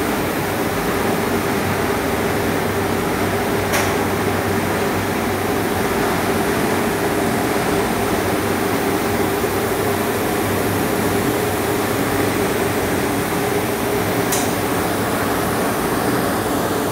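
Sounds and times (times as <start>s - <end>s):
ventilation machinery hum: 0.0s - 16.9s.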